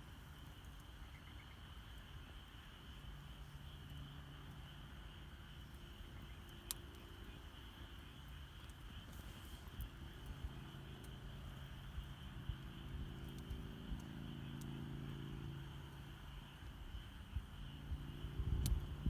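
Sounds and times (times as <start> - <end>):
campfire crackling: 0.0 - 19.0
night insects chirping: 0.0 - 19.0.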